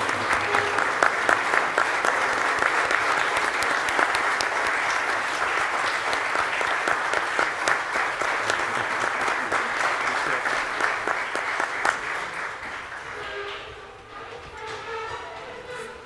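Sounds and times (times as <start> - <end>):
crowd clapping: 0.0 - 14.1.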